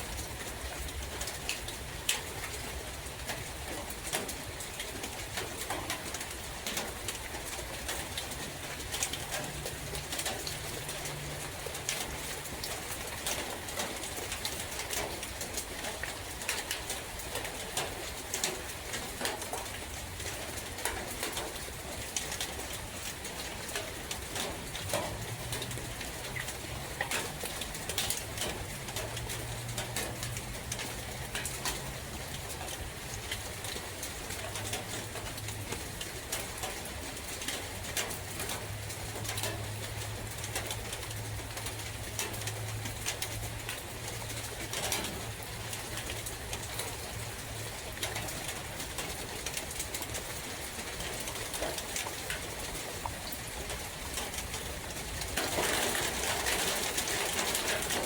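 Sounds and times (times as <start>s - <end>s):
rain falling in a forest: 0.0s - 58.0s.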